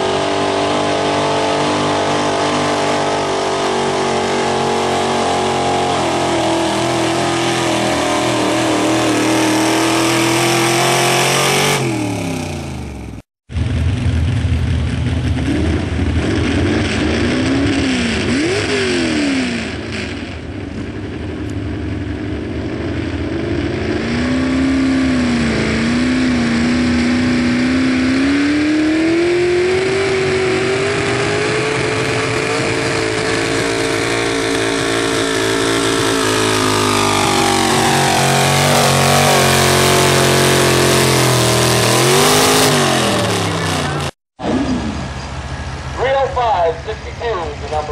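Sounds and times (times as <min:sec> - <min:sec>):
truck engine revving under load: 0:00.0 - 0:13.3, 0:14.4 - 0:46.0.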